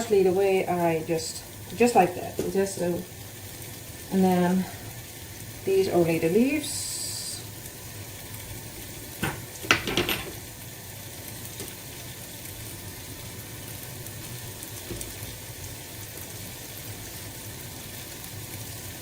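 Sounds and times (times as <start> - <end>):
stew sizzling in a pot: 0.0 - 19.0.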